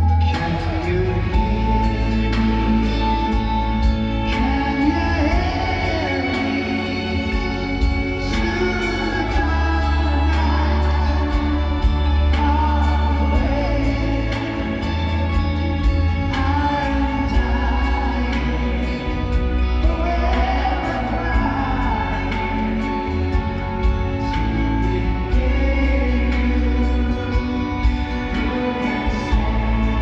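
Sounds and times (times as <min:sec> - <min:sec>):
live band playing slow ballad: 0:00.0 - 0:30.0
person singing: 0:00.0 - 0:30.0.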